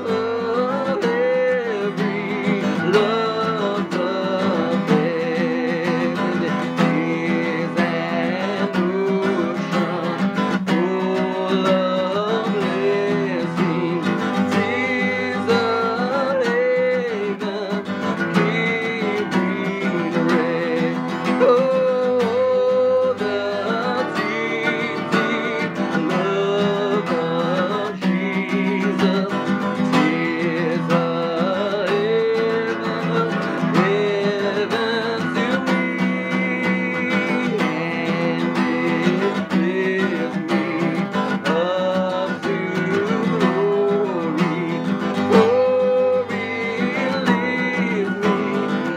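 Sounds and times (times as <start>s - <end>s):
strummed acoustic guitar: 0.0s - 48.9s.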